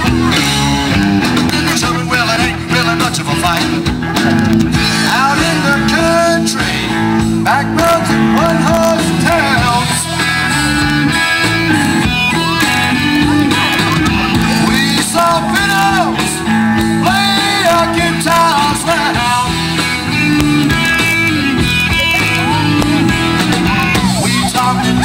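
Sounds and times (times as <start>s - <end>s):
lead guitar: 0.0s - 25.0s
live country band playing: 0.0s - 25.0s.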